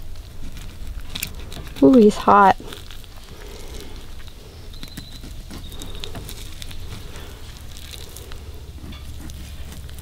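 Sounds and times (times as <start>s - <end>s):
crackles and rustling of feathers: 0.0s - 10.0s
low steady rumble: 0.0s - 10.0s.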